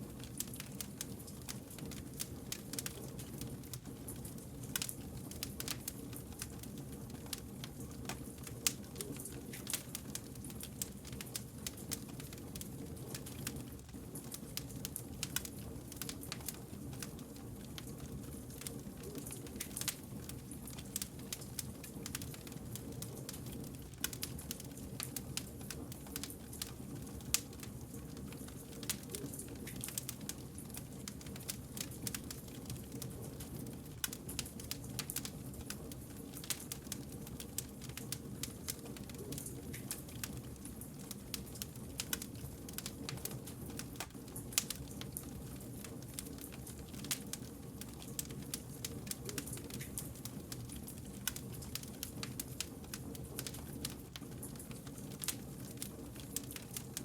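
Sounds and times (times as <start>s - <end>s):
burning logs crackling: 0.0s - 57.0s
flames rumbling: 0.1s - 57.0s.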